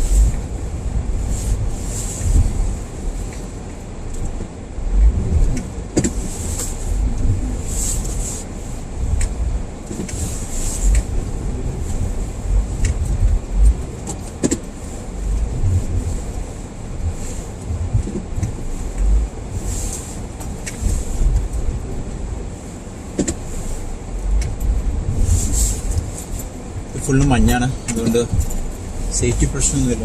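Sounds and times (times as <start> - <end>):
car driving through snow: 0.0 - 30.0.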